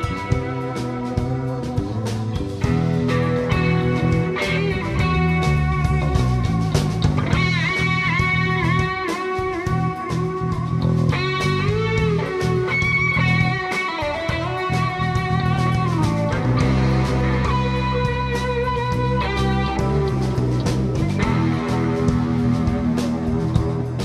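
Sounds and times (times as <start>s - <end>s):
bass guitar: 0.0s - 24.0s
drum kit: 0.0s - 24.0s
electric guitar lead: 0.0s - 24.0s.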